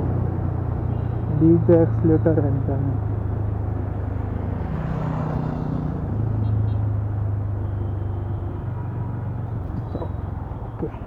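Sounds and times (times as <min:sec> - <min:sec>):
motorcycle engine running: 0:00.0 - 0:11.0
road rumble: 0:00.0 - 0:11.0
wind: 0:00.0 - 0:11.0.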